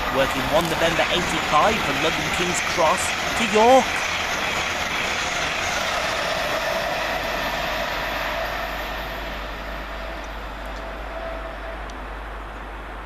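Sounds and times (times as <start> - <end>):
electric train passing at speed: 0.0 - 13.0.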